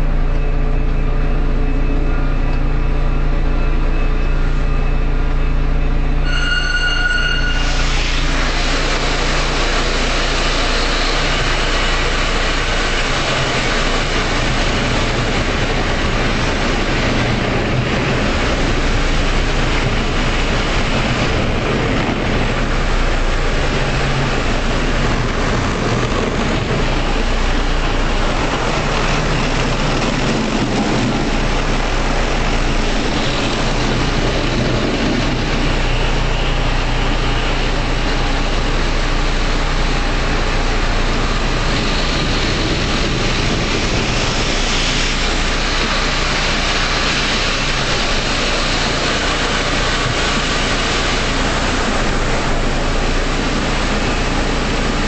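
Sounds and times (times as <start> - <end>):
bus diesel engine running: 0.0 - 55.0
rushing water and machinery: 0.0 - 55.0.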